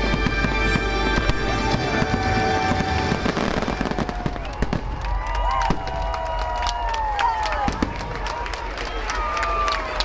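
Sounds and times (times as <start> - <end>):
fireworks bangs and crackles: 0.0 - 8.8.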